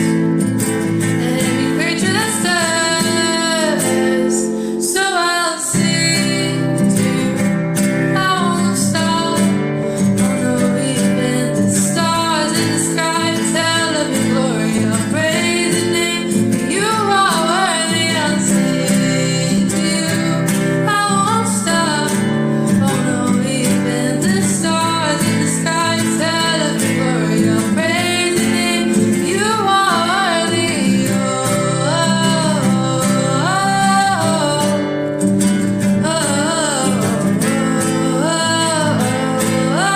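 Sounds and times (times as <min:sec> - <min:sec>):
strummed acoustic guitar: 0:00.0 - 0:39.9
woman singing worship song: 0:01.0 - 0:39.9.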